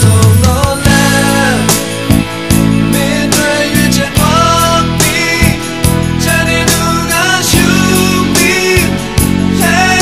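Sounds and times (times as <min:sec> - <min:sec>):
song with chords and drum beat: 0:00.0 - 0:10.0.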